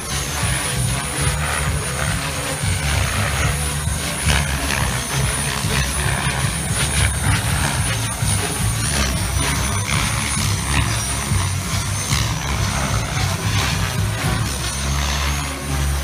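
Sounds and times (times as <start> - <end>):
helicopter rotor swish: 0.0 - 16.0
high motor whine: 0.0 - 16.0.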